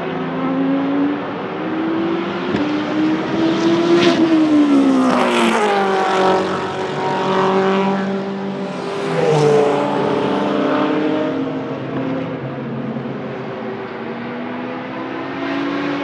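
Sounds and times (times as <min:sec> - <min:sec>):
race car engine passing: 0:00.4 - 0:16.0.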